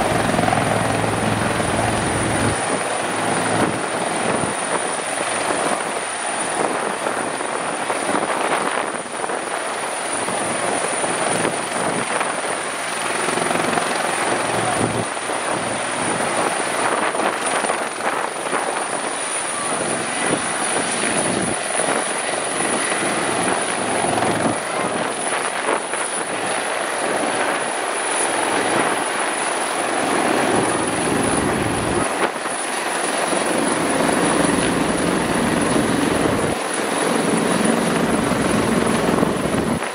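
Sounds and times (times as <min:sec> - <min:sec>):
helicopter rotor running: 0:00.0 - 0:39.9.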